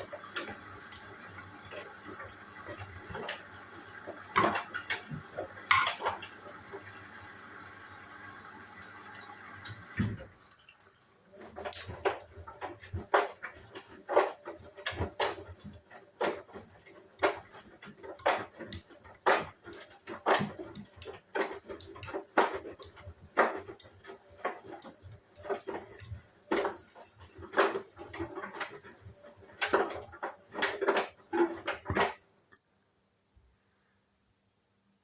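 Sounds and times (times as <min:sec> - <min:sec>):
washing machine drum turning: 0:00.0 - 0:10.4, 0:11.3 - 0:32.2.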